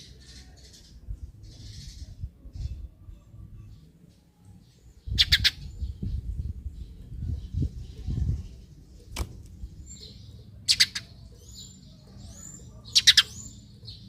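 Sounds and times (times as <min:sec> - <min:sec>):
sparrow chirping: 0:00.0 - 0:03.9, 0:04.5 - 0:14.0.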